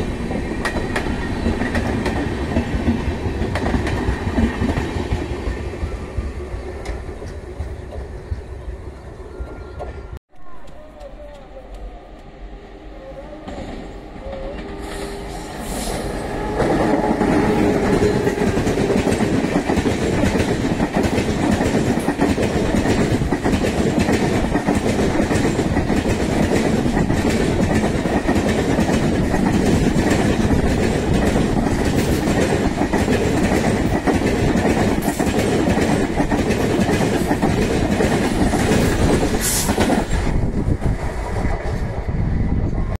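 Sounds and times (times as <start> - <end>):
train passing at speed: 0.0 - 43.0.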